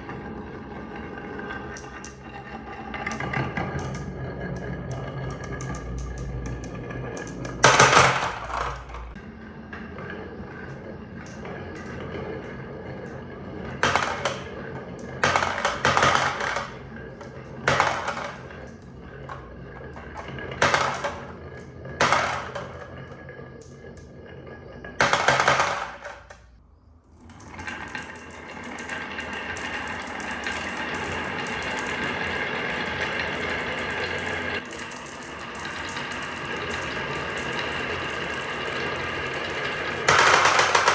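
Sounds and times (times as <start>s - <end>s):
marbles clacking on track: 0.0s - 24.1s, 24.9s - 26.5s, 27.3s - 40.9s
marbles rolling rattle: 0.0s - 26.6s, 27.2s - 40.9s.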